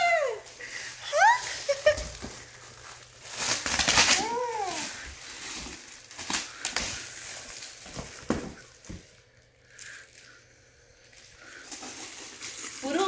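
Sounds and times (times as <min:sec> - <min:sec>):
foil gift wrap crinkling: 0:00.0 - 0:13.0.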